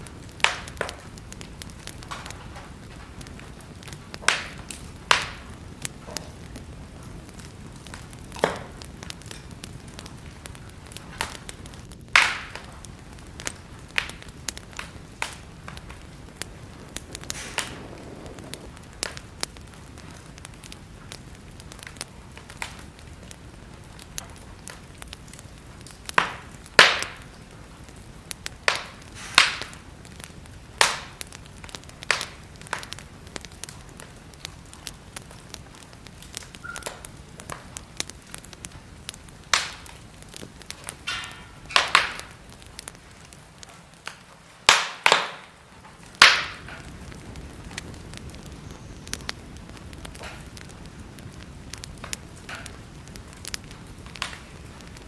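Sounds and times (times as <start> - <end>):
burning wood pops and cracks: 0.0 - 55.0
faint steady hiss: 0.0 - 55.0.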